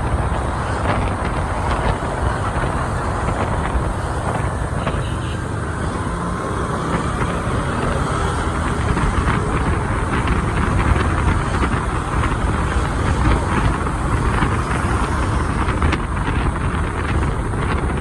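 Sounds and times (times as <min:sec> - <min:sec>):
motorbike engine running: 0:00.0 - 0:18.0
street traffic: 0:00.0 - 0:18.0
wind rushing over microphone: 0:00.0 - 0:18.0.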